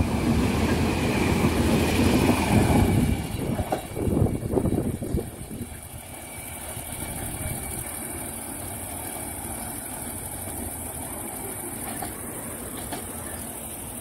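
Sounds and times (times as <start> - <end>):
diesel train engine rumble: 0.0 - 14.0.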